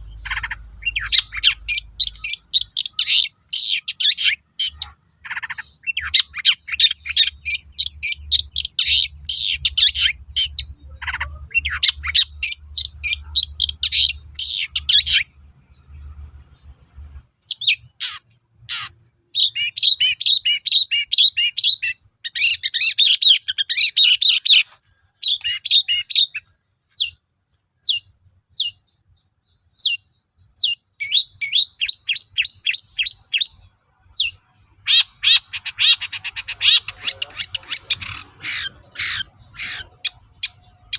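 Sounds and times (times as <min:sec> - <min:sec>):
shrike chattering song: 0:00.0 - 0:15.4, 0:17.4 - 0:27.2, 0:29.8 - 0:33.6, 0:34.2 - 0:40.9.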